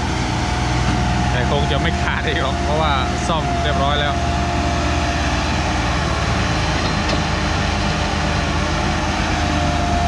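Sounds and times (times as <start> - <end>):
excavator diesel engine: 0.0 - 10.0.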